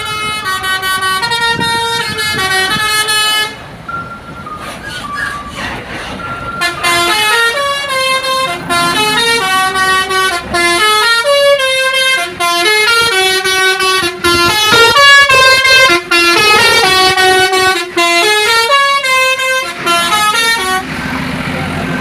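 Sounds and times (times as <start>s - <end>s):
musical bus horns playing tune: 0.0s - 21.2s.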